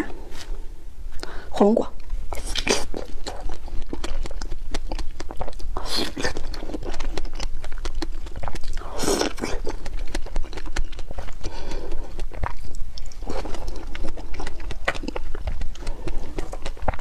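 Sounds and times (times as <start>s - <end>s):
wet chewing clicks and squelches: 2.0s - 17.0s.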